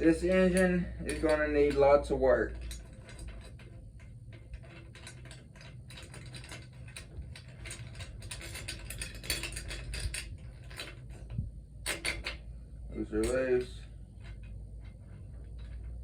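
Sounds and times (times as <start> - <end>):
tools clinking: 0.0 - 12.4, 13.0 - 16.0.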